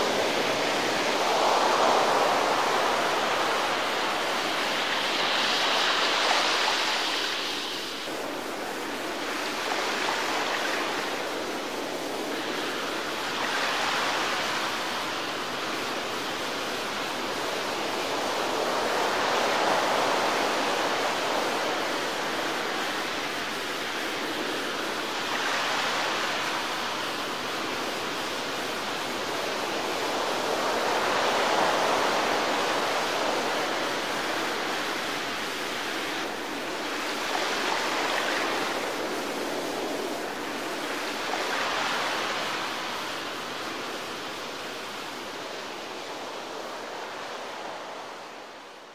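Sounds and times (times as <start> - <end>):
water rushing around boat: 0.0 - 48.9.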